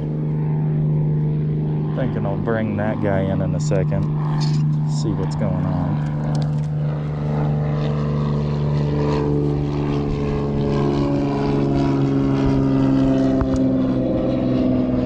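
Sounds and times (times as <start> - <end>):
distant engine droning: 0.0 - 15.0.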